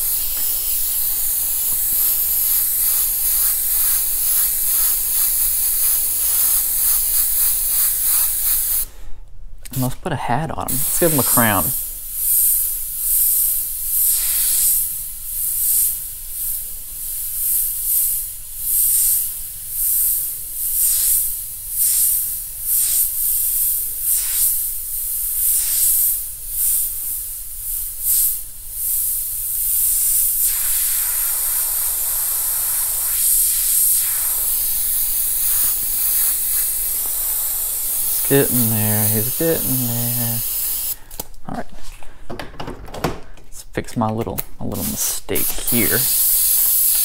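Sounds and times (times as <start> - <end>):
airbrush spraying hiss: 0.0 - 9.0, 10.7 - 41.1, 44.7 - 47.0.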